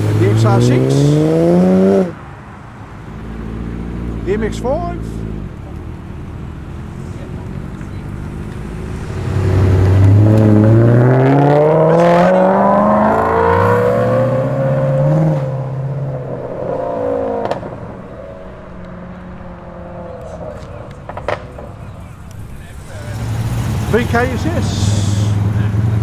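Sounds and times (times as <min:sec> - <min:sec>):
car accelerating hard: 0:00.0 - 0:26.0.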